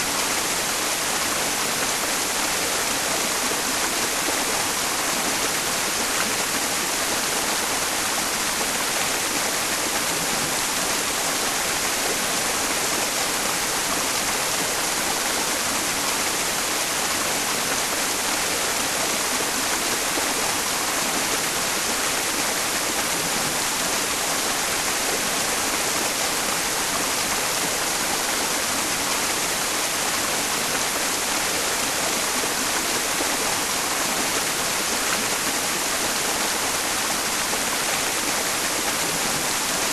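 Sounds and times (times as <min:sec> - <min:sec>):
stream rushing water: 0:00.0 - 0:39.9
white noise hiss: 0:00.0 - 0:39.9.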